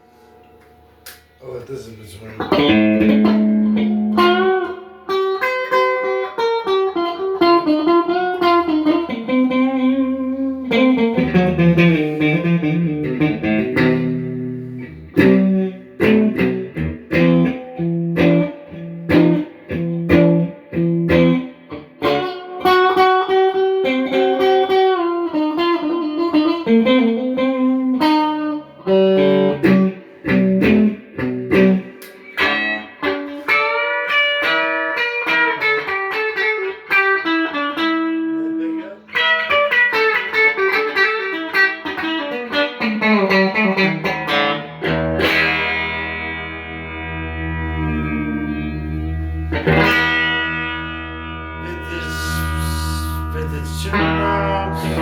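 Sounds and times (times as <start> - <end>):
electric guitar notes and chords: 2.3 - 55.0.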